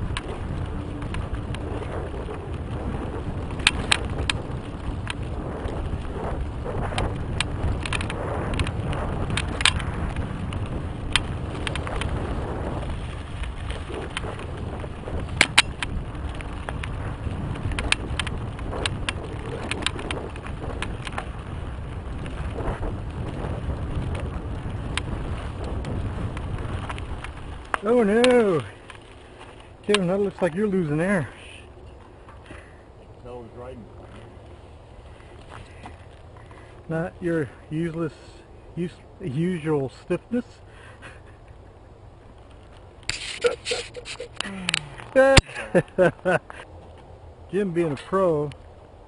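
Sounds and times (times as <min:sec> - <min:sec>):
bike rattling over bumps: 0:00.0 - 0:49.0
wind: 0:00.0 - 0:49.0.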